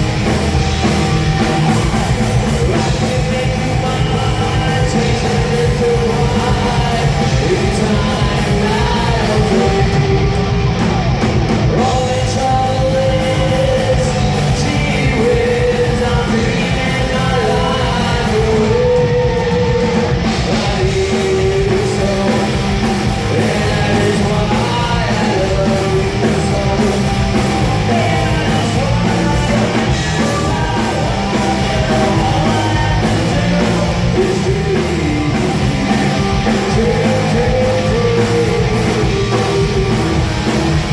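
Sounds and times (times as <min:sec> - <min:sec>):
punk rock band playing: 0:00.0 - 0:40.9
person singing: 0:00.2 - 0:11.0, 0:11.6 - 0:40.9.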